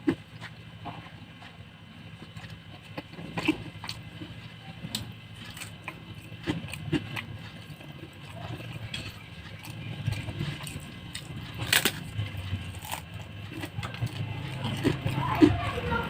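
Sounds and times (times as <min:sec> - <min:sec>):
person chewing: 0:02.2 - 0:16.0.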